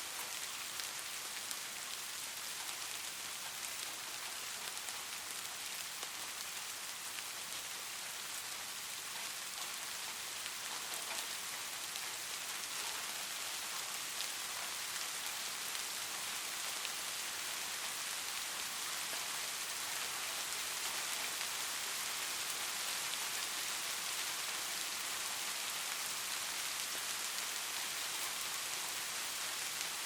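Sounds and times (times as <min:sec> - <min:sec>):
light rain pattering: 0:00.0 - 0:30.0.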